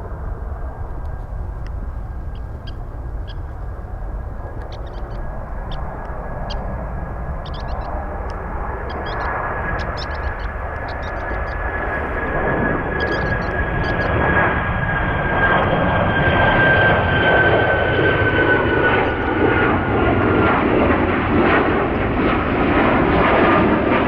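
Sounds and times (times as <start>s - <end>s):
jet airliner engines: 0.0s - 24.0s.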